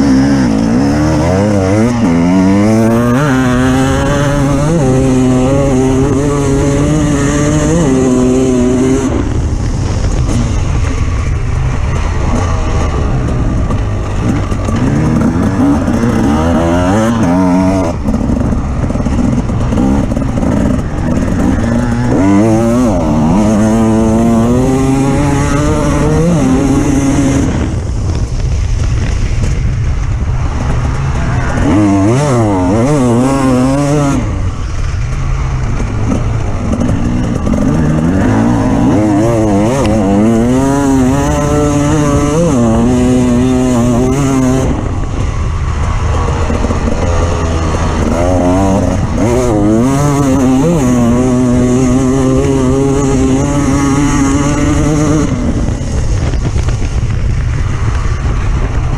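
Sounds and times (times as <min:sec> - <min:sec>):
off-road vehicle engine revving: 0:00.0 - 0:28.2, 0:30.2 - 0:57.1.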